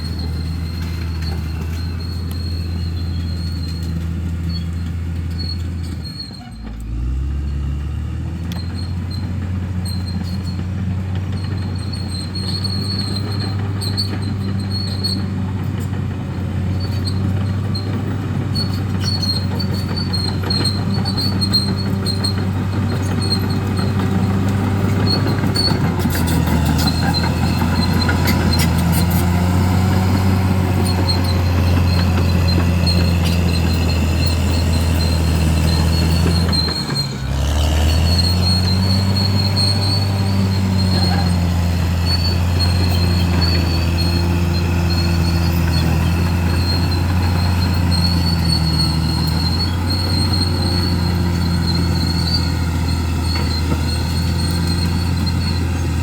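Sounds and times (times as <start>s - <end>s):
high machine squeal: 0.0s - 6.7s, 11.4s - 15.3s, 16.7s - 56.0s
bulldozer diesel engine running: 0.0s - 56.0s.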